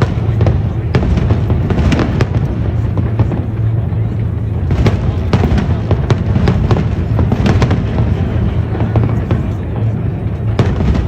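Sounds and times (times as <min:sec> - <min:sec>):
fireworks bangs and crackles: 0:00.0 - 0:11.0
steady low rumble: 0:00.0 - 0:11.0.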